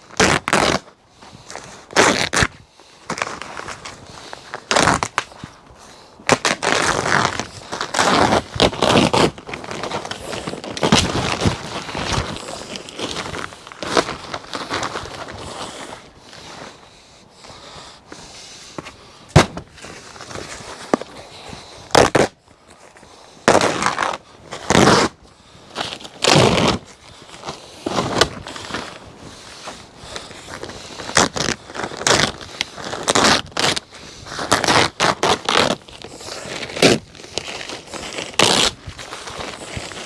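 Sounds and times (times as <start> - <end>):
plastic sheet crackling and scraping: 0.0 - 1.0, 1.6 - 5.6, 6.2 - 16.8, 19.3 - 25.2, 25.8 - 40.0.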